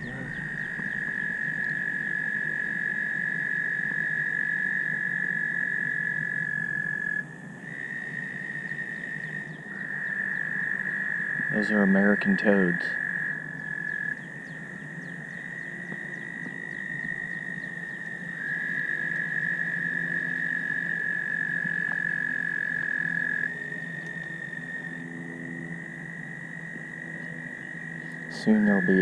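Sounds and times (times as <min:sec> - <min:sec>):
toads trilling: 0:00.0 - 0:29.0.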